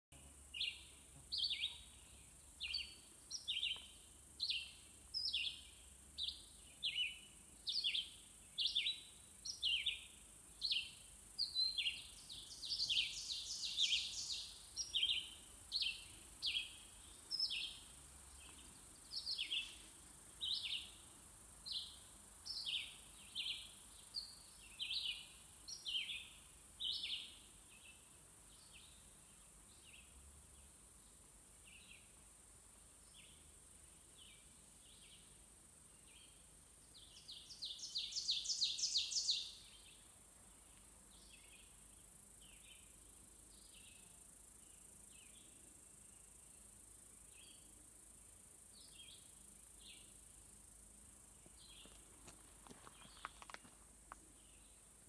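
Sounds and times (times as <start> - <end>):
faint high hiss: 0.2 - 55.0.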